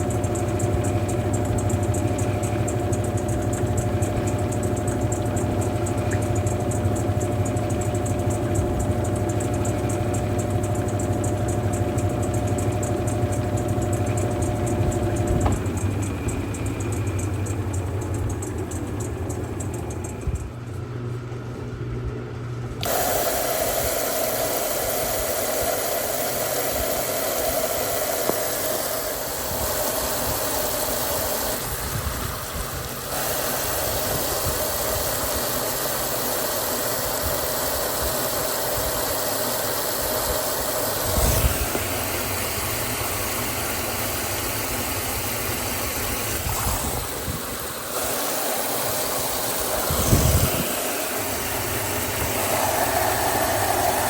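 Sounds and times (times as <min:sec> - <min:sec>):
washing machine motor whirring: 0:00.0 - 0:54.0.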